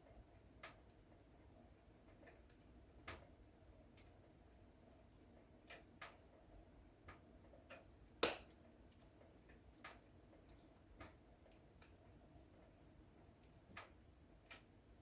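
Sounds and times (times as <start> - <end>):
wood fire crackling: 0.6 - 15.0.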